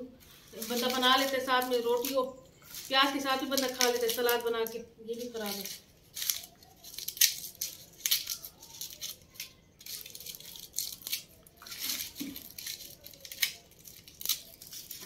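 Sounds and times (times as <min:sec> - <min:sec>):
onion skins crackling and rustling: 0:00.0 - 0:15.0.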